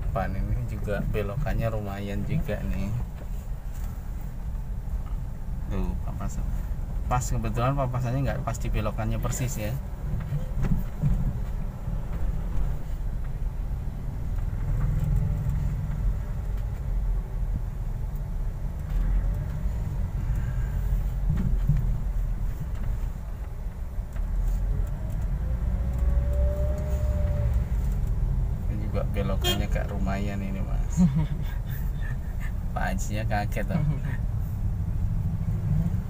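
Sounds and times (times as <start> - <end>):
engine and tyre rumble: 0.0 - 36.0.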